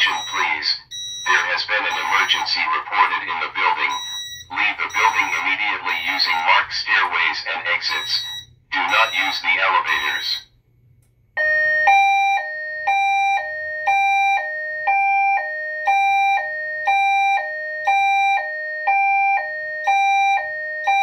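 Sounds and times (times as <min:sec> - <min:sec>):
two-tone evacuation alarm: 0:00.0 - 0:10.5, 0:11.4 - 0:21.0.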